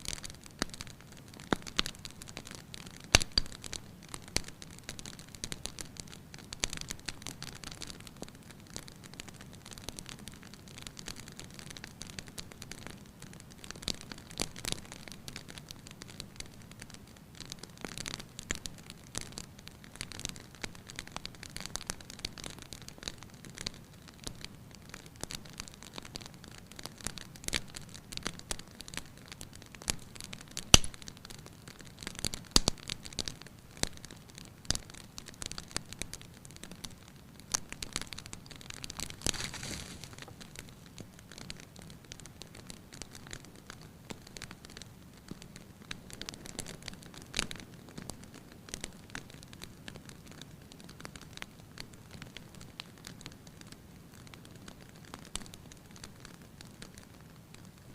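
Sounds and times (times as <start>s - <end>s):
faint hiss: 0.0s - 57.9s
wood fire crackling: 0.0s - 57.9s.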